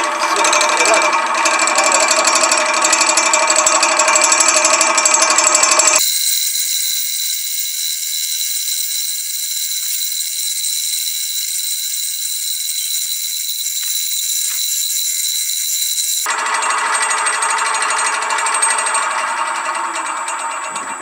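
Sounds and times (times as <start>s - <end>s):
centrifuge whining and rattling: 0.0s - 21.0s.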